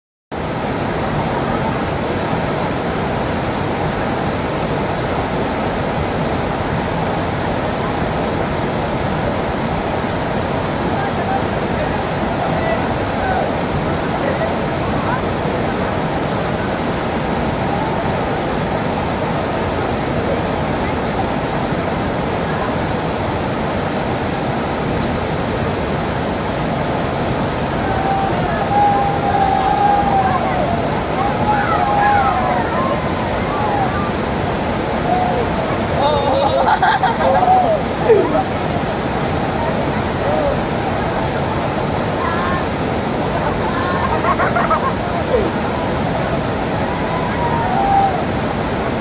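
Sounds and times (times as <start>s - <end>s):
waterfall rushing: 0.4s - 49.0s.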